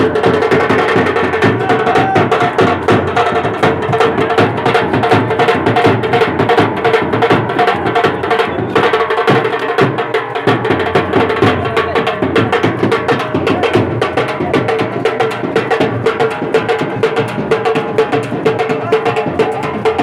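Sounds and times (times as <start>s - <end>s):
fast dense drumming: 0.0s - 20.0s.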